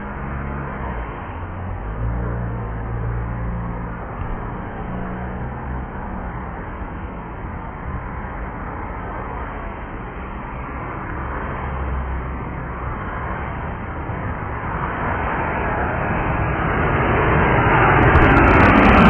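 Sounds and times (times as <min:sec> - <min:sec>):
jet engines roaring overhead: 0:00.0 - 0:19.0.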